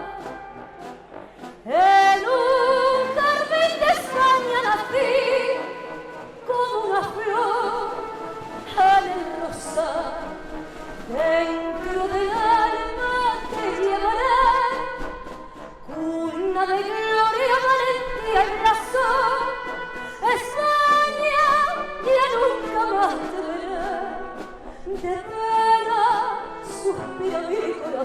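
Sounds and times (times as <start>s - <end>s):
woman singing operatically: 0.0s - 0.6s, 1.6s - 28.0s
orchestral accompaniment: 0.0s - 28.0s.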